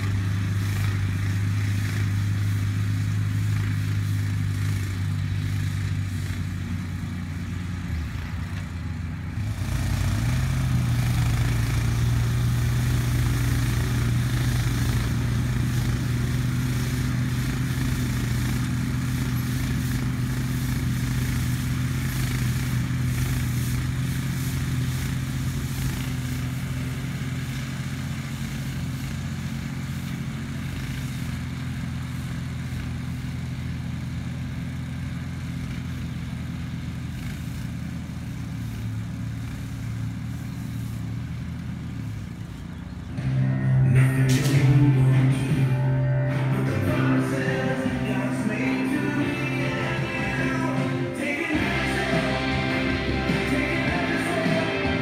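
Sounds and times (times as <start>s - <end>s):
atv engine running under load: 0.0s - 55.0s.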